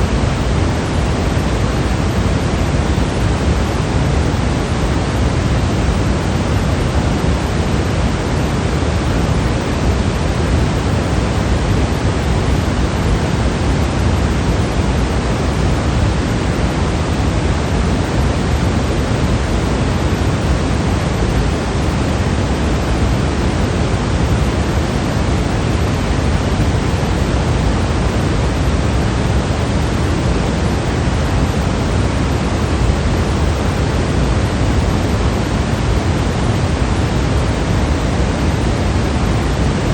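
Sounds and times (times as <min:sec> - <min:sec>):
electronic white noise hiss: 0:00.0 - 0:39.9.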